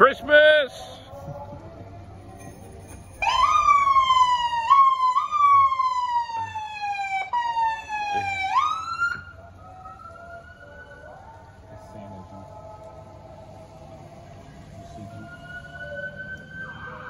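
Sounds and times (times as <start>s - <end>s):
police car siren: 3.2s - 17.0s.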